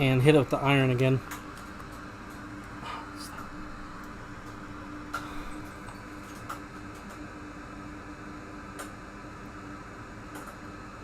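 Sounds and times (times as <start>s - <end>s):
small fan humming: 0.0s - 11.0s.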